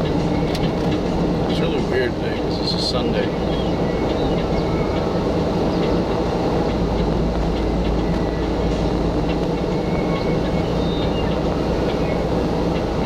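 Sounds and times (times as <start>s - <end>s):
car driving on concrete road: 0.0s - 13.0s.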